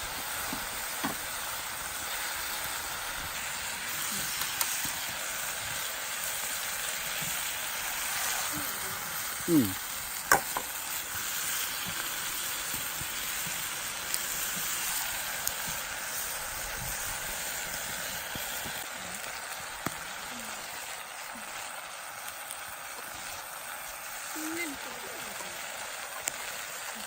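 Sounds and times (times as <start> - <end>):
food sizzling over fire: 0.0 - 27.0.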